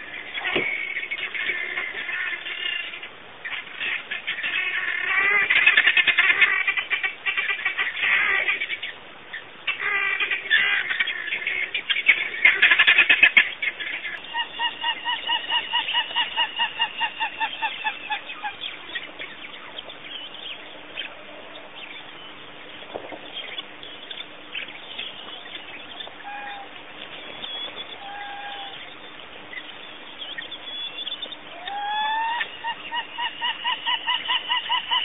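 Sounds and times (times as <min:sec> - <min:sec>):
faint steady hum: 0:00.0 - 0:35.0
wild birds calling: 0:00.0 - 0:35.0.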